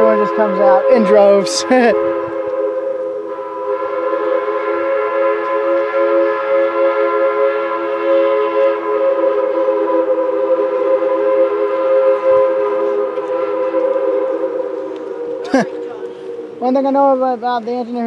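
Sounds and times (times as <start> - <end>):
steam locomotive whistle blast: 0.0 - 17.3.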